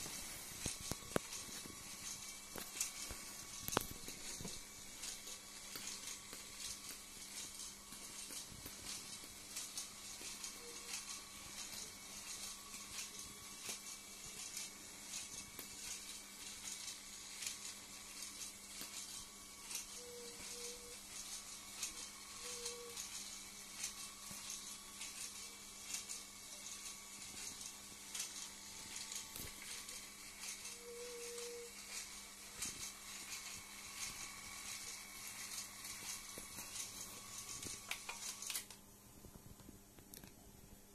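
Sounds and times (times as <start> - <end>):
toy train motor hum: 0.0 - 38.8.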